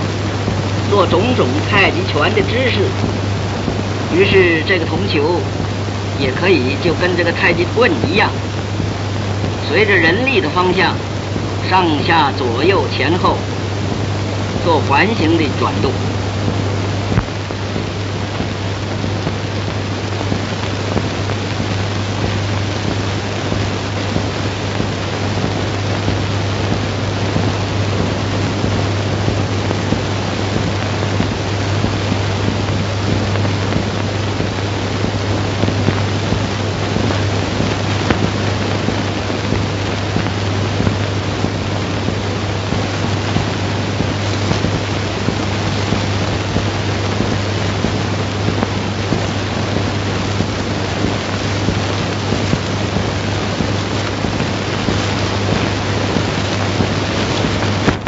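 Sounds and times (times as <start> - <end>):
film hiss and crackle: 0.0 - 58.0.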